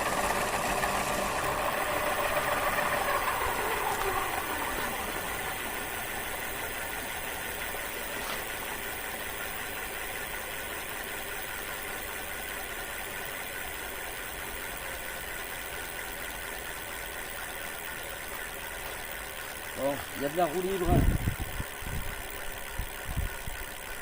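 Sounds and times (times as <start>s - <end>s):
bike wheel motor whirring: 0.0s - 24.0s.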